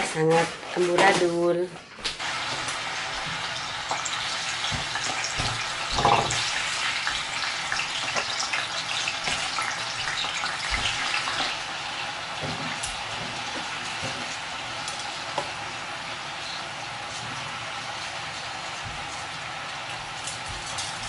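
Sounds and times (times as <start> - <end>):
oil crackles and pops: 2.0 - 21.0
tofu sizzling in oil: 2.2 - 21.0.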